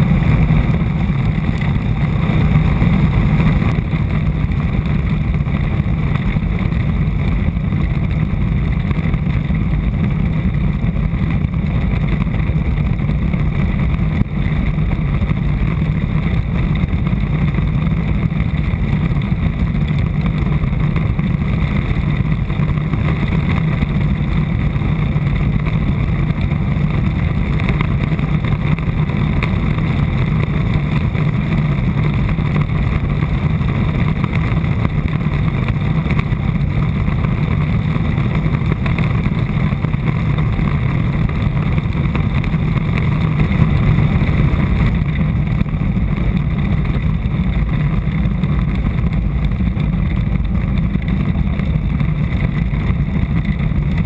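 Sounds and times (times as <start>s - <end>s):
wheels rumbling on lakebed: 0.0s - 54.0s.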